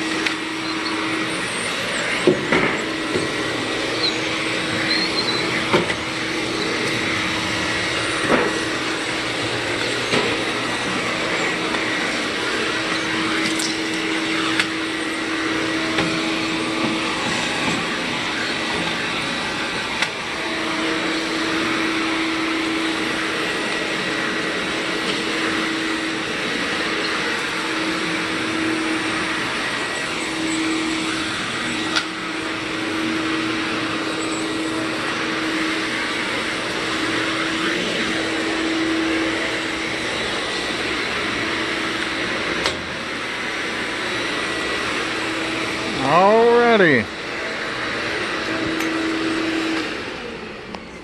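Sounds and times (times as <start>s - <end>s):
vacuum cleaner motor whine: 0.0s - 51.0s.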